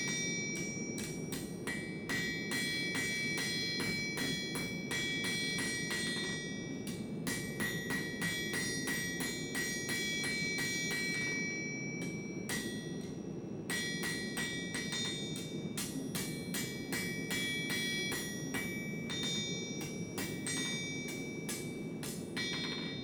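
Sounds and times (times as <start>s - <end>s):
hammer ringing on anvil: 0.0s - 23.0s.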